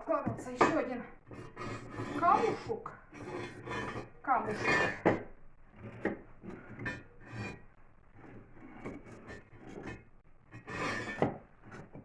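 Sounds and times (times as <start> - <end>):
stone scraping against brick: 0.0 - 12.0.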